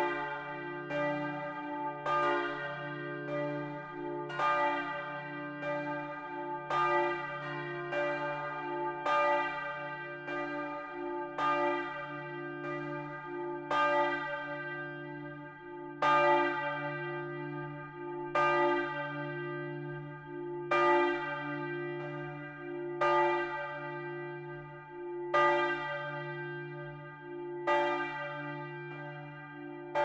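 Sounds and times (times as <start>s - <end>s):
church bells striking: 0.0s - 30.0s.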